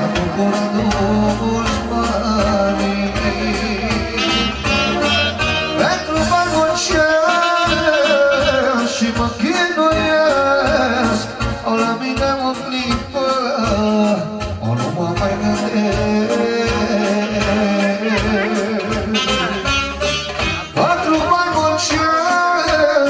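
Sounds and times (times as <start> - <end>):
man singing into a microphone: 0.0 - 19.8, 20.4 - 23.0
amplified keyboard with steady beat: 0.0 - 23.0.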